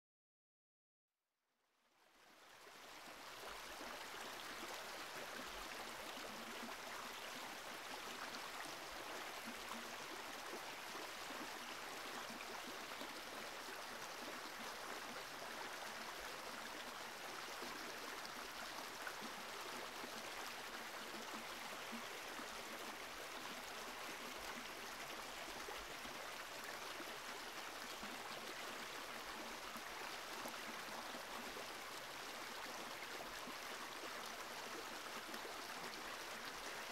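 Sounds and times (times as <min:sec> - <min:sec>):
flowing water rushing: 0:02.6 - 0:36.9.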